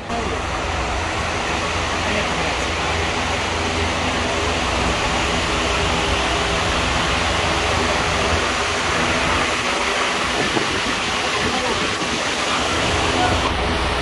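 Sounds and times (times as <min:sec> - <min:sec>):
electric fans rushing: 0:00.0 - 0:14.0
low hum: 0:00.0 - 0:14.0.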